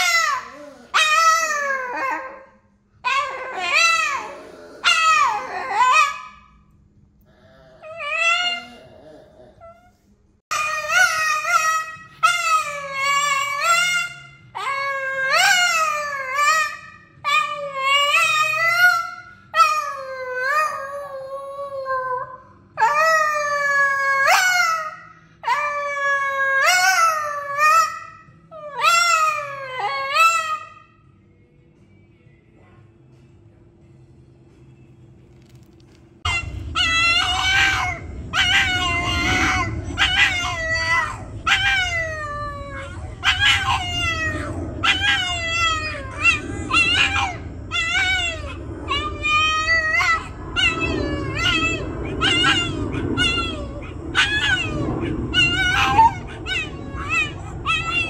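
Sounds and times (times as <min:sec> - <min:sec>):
dog howling: 0:00.0 - 0:06.5, 0:07.4 - 0:09.9, 0:10.5 - 0:30.9, 0:36.3 - 0:58.0.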